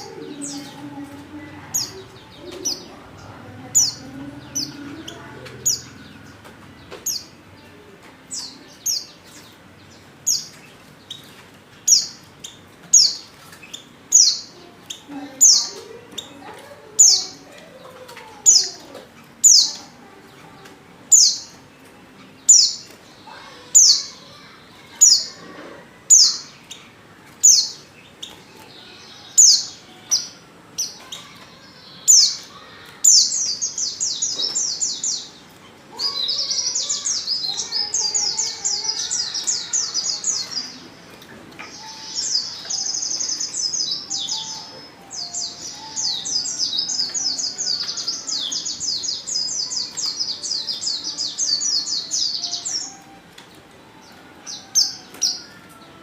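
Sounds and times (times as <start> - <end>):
bird high twittering song: 0.0 - 56.0.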